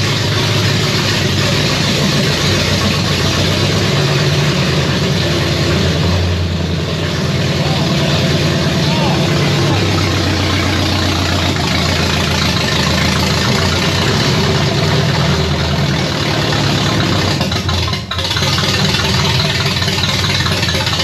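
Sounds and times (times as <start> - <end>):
engine running at fast idle: 0.0 - 21.0.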